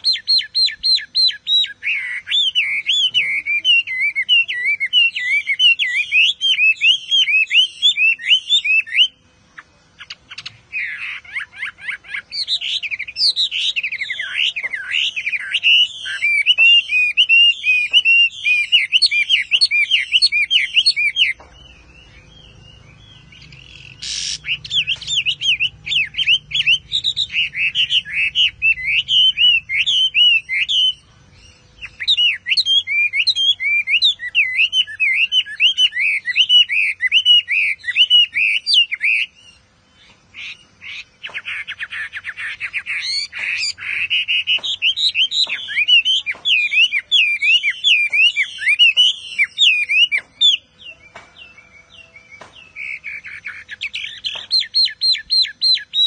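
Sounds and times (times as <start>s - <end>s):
bird singing whistled phrases: 0.0s - 39.7s, 40.4s - 56.0s.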